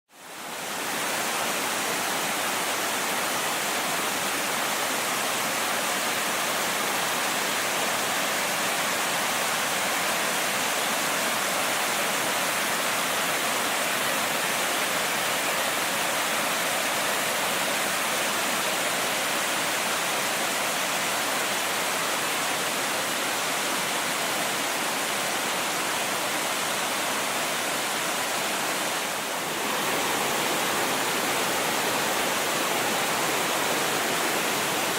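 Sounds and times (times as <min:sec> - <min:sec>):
water rushing down stream: 0:00.1 - 0:34.9.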